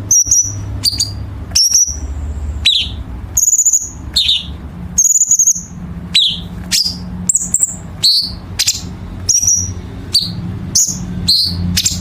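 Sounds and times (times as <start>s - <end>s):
bird singing sharp high calls: 0.0s - 12.0s
steady low hum: 0.0s - 12.0s.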